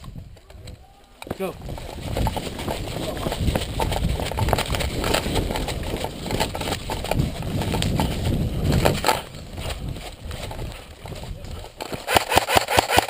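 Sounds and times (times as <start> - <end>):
footsteps crunching through dry brush: 1.0 - 12.1.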